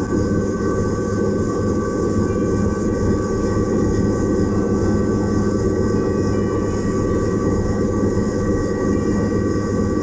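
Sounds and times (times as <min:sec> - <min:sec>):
gear whine: 0:00.0 - 0:10.0.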